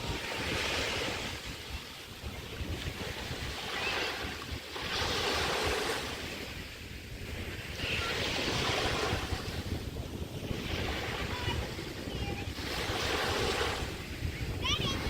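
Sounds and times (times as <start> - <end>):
waves washing up on sand: 0.0 - 15.0.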